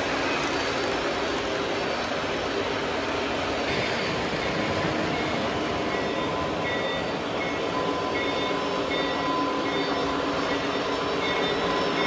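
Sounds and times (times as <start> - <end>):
model train wheels and motors rumbling: 0.0 - 12.0.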